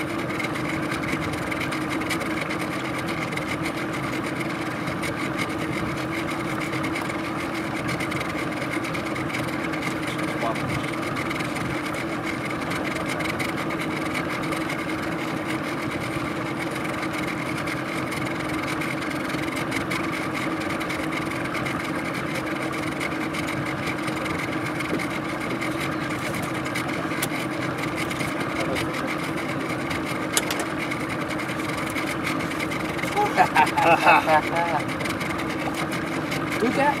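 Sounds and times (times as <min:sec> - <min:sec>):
outboard motor idling: 0:00.0 - 0:37.0.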